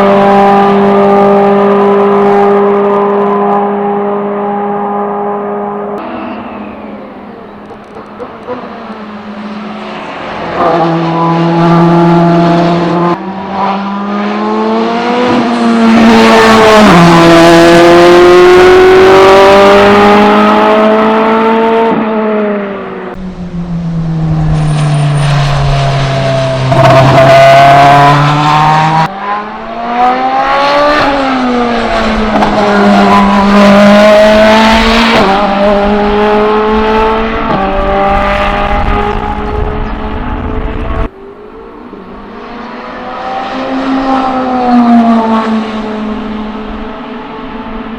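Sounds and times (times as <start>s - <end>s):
race car engine at full pace: 0.0s - 47.9s.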